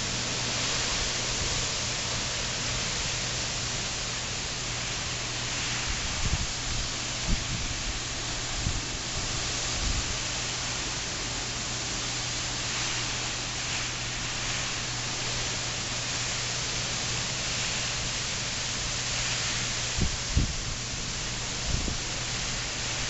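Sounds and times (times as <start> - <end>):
rain and wind hiss: 0.0 - 23.0.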